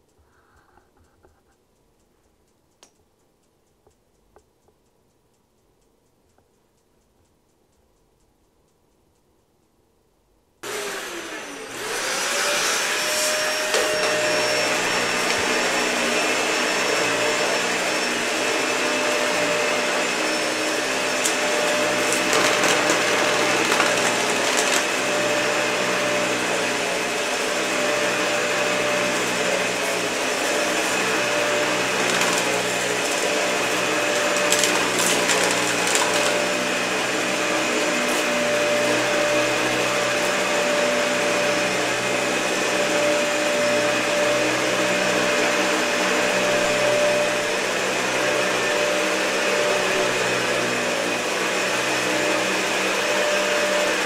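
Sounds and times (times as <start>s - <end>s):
vacuum cleaner motor whine: 10.6s - 54.0s.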